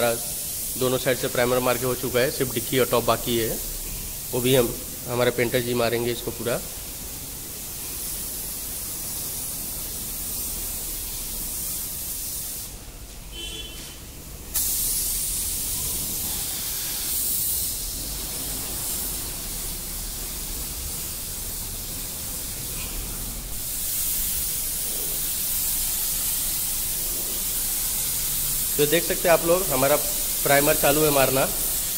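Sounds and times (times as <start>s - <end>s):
spray gun hissing: 0.0s - 31.9s.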